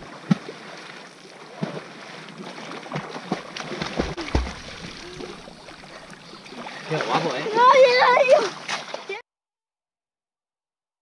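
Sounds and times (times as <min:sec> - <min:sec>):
water sloshing and lapping: 0:00.0 - 0:09.2
swimmers splashing: 0:00.2 - 0:09.2.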